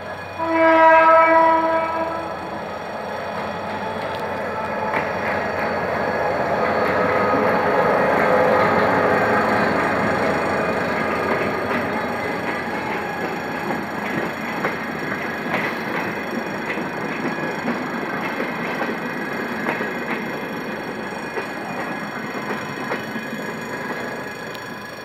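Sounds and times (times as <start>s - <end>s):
train coaches rumbling past: 0.0s - 25.0s
wheels clacking over rail joints: 3.3s - 25.0s.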